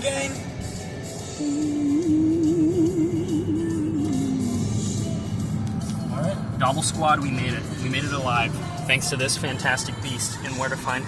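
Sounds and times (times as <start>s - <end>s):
car rumbling on road: 0.0s - 11.0s.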